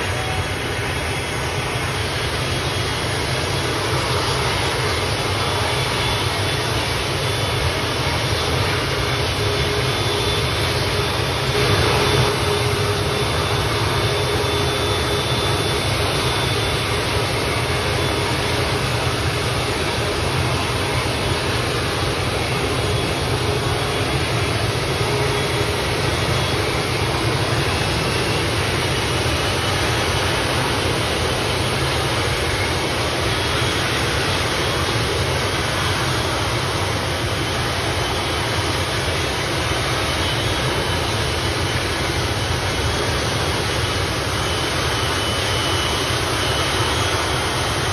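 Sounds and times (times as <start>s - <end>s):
turboprop engines running: 0.0s - 47.9s.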